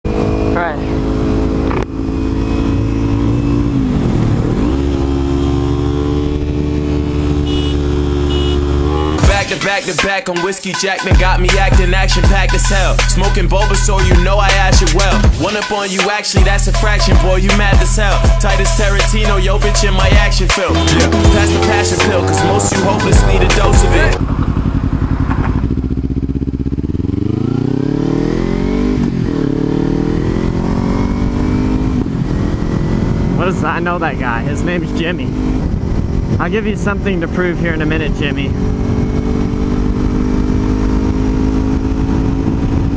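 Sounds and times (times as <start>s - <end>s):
motorcycle engine running: 0.0s - 9.4s, 16.4s - 42.9s.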